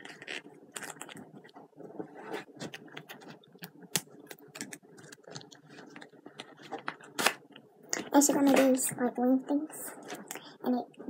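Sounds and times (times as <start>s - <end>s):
crinkly rustling: 0.0s - 9.0s.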